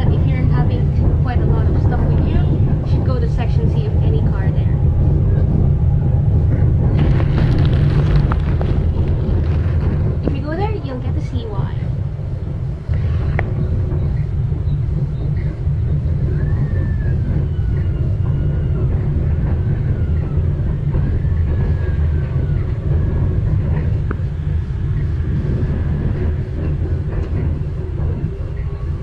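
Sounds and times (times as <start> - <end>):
light-rail car low rumble: 0.0 - 29.0
faint wavering whines: 2.4 - 29.0.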